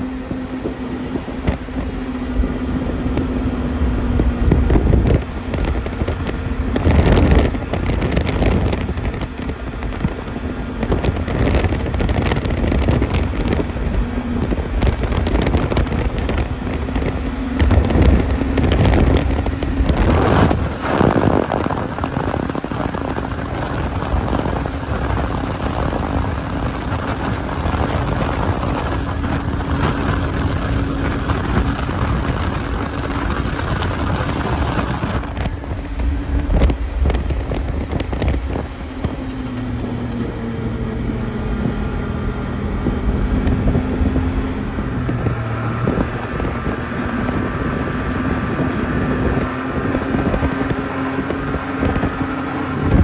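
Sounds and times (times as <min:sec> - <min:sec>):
snowmobile engine running: 0:00.0 - 0:53.0
wind rushing over microphone: 0:00.0 - 0:53.0.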